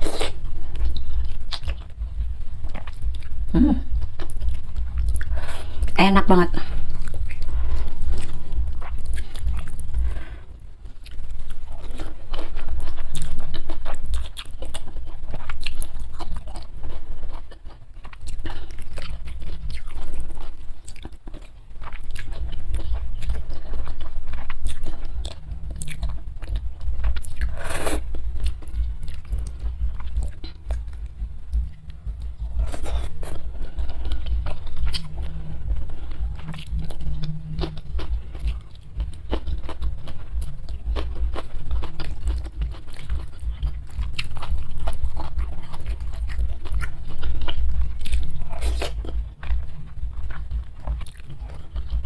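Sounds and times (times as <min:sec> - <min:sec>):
chewing and biting food: 0:00.0 - 0:52.0
crisp food crunching: 0:06.6 - 0:52.0.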